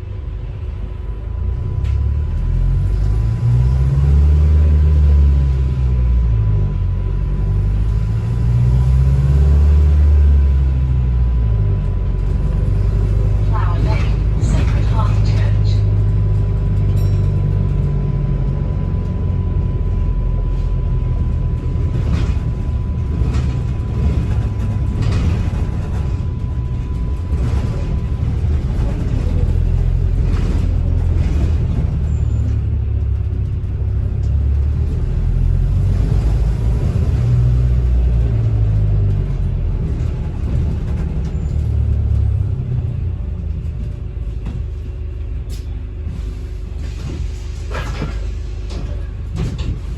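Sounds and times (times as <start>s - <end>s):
bus engine and road rumble: 0.0s - 49.9s.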